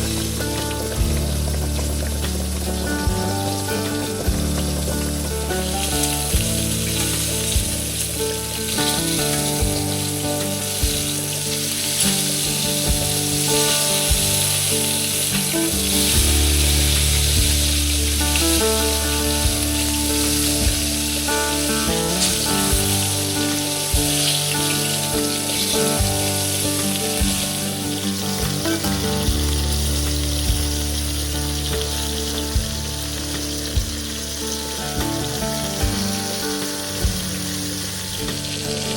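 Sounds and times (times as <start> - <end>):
instrumental music: 0.0 - 38.9
steady high hiss: 0.0 - 38.9.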